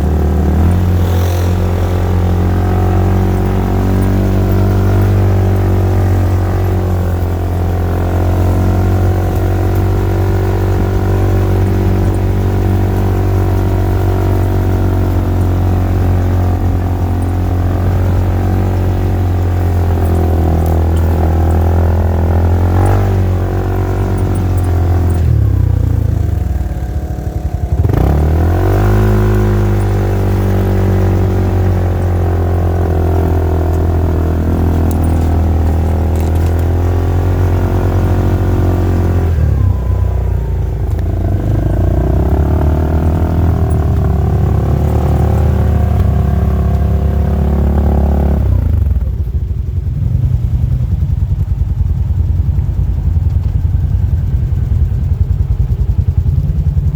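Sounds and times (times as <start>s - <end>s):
engine revving: 0.0s - 49.6s.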